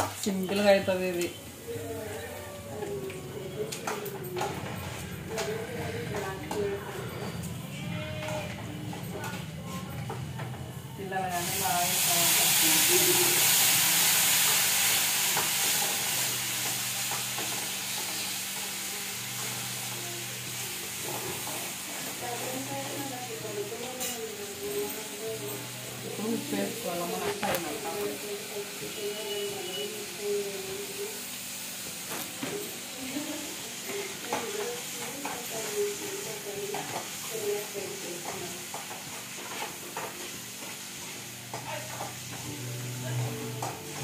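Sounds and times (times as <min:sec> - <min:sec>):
onions sizzling in hot oil: 0:00.0 - 0:03.0, 0:11.0 - 0:44.0.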